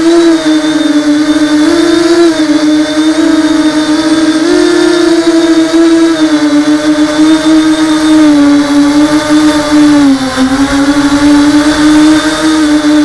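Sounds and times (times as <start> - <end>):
drone motors and propellers buzzing: 0.0 - 13.0.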